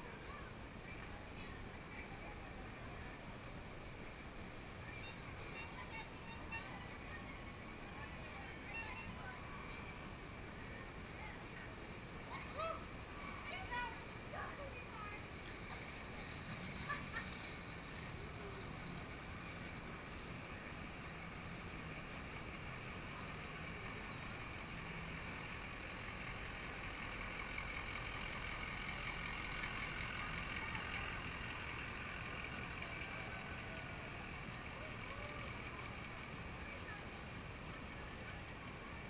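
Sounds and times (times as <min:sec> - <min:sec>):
street background noise: 0:00.0 - 0:39.0
truck engine driving past: 0:00.1 - 0:39.0.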